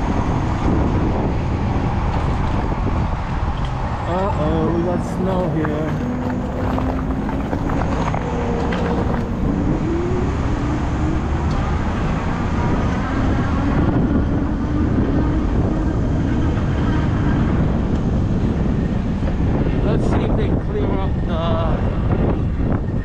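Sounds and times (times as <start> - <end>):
low wavering motor hum: 0.0 - 23.0
tyres on road: 0.0 - 23.0
wind rushing over microphone: 0.0 - 23.0.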